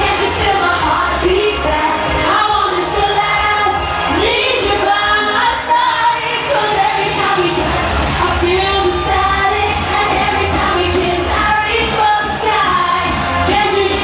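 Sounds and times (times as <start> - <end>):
club beat with heavy bass: 0.0 - 14.0
woman singing: 0.0 - 14.0.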